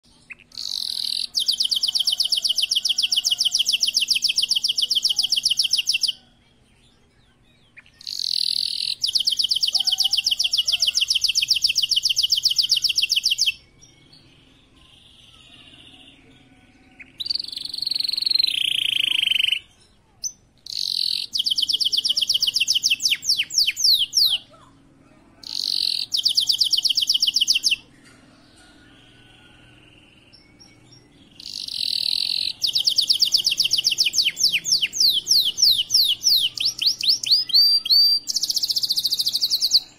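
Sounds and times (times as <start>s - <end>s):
canary singing rapid trills: 0.1s - 6.3s, 7.5s - 24.8s, 25.4s - 27.9s, 28.7s - 39.9s.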